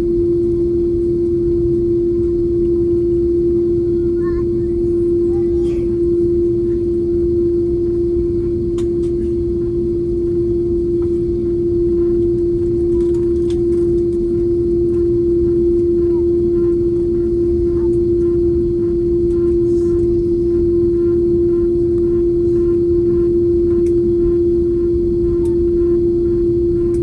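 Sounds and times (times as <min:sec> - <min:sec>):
droning hum tone: 0:00.0 - 0:27.0
airliner cabin engine rumble: 0:00.1 - 0:27.0.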